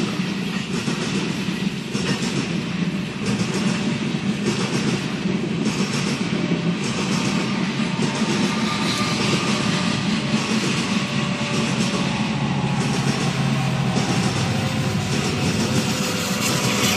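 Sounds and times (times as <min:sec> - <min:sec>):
diesel locomotive engine hum: 0:00.0 - 0:16.9
train wheels clattering on rail: 0:00.0 - 0:16.9.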